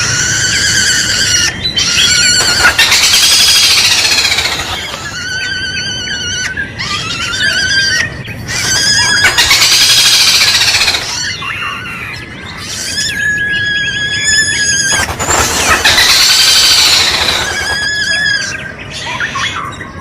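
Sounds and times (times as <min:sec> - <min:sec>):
bird squealing calls: 0:00.0 - 0:20.0.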